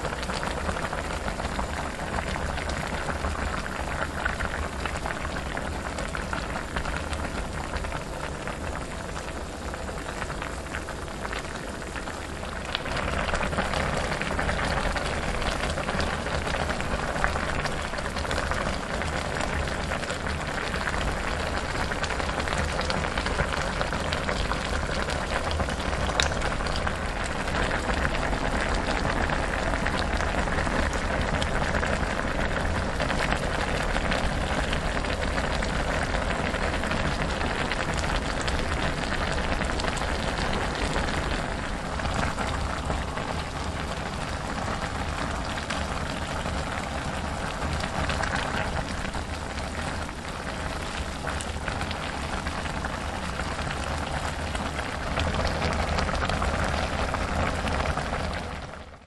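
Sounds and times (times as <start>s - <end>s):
stew boiling with popping bubbles: 0.0s - 59.0s.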